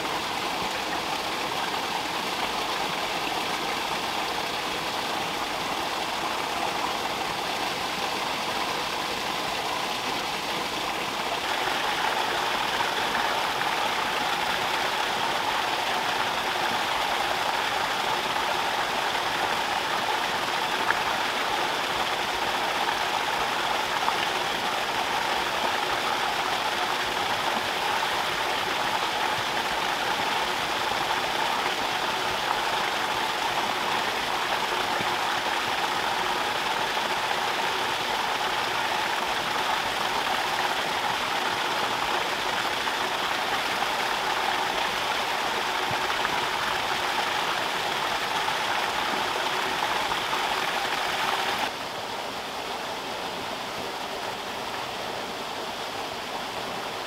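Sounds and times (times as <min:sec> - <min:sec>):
water rushing into pond: 0:00.0 - 0:57.0.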